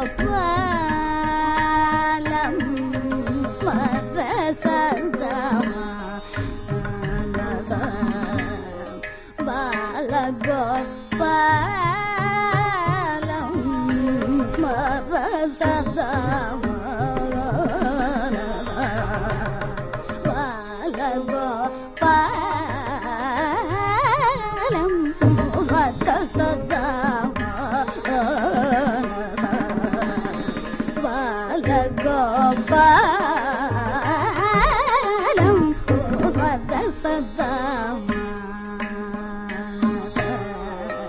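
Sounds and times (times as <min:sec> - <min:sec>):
hand drum playing: 0:00.0 - 0:40.8.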